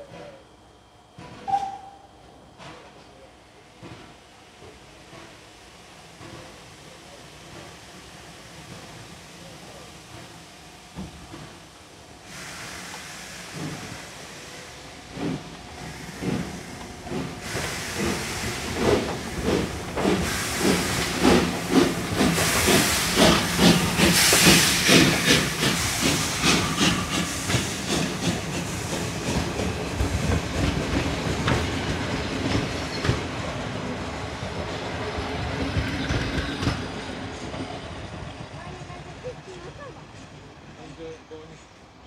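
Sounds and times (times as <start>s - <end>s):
coaches rumbling and wheel clatter: 0.0s - 42.0s
steam locomotive beats and hissing: 0.0s - 42.0s.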